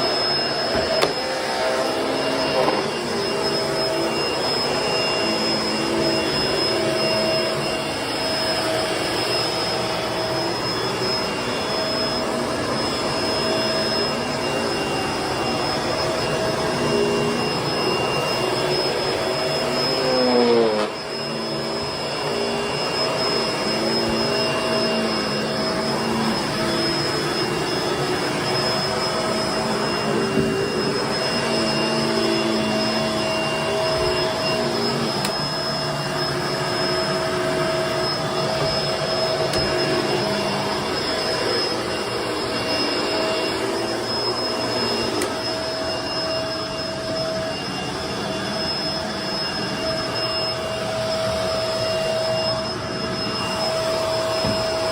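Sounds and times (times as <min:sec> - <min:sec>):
vacuum cleaner on carpet: 0:00.0 - 0:54.9.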